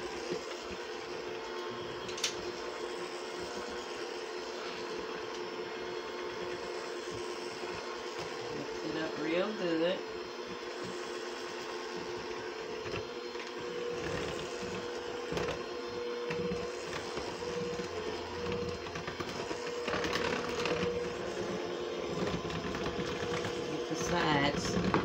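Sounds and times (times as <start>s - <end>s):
electric mixer churning batter: 0.0s - 25.0s.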